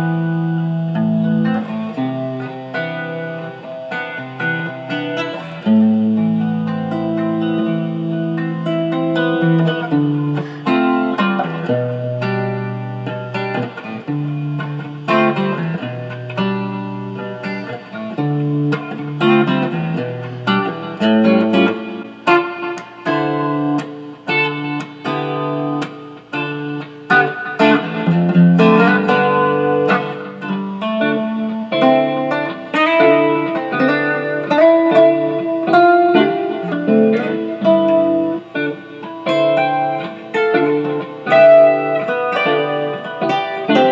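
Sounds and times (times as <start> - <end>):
electric guitar single notes: 0.0 - 43.9
looped guitar chord progression: 0.0 - 43.9.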